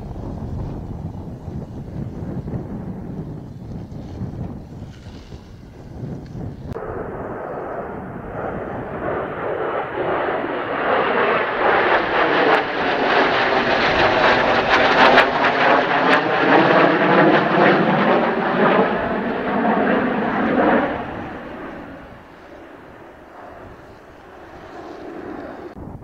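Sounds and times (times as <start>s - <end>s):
jets passing overhead: 0.0s - 26.0s.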